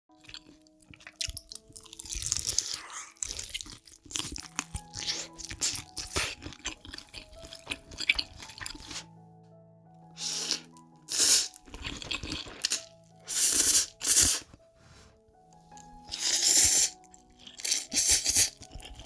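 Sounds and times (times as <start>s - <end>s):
person chewing crunchy food: 0.1s - 9.1s, 10.2s - 14.6s, 15.7s - 19.0s.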